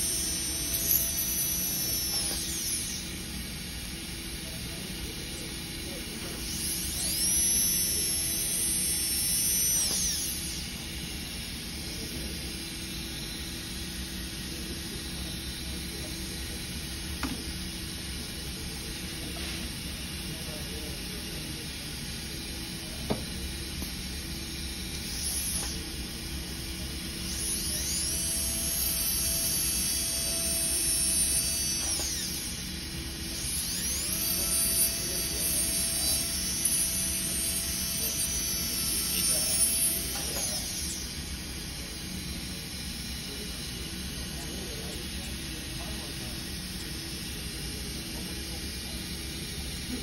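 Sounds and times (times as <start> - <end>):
dental drill high-pitched whine: 0.0 - 50.0.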